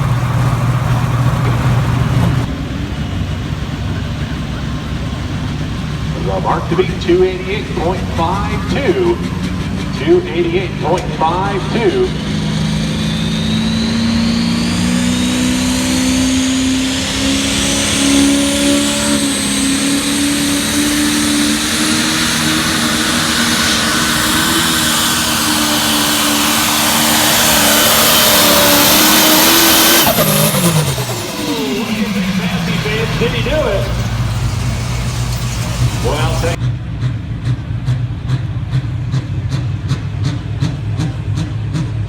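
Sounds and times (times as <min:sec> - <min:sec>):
tractor diesel engine at full throttle: 0:00.0 - 0:42.0.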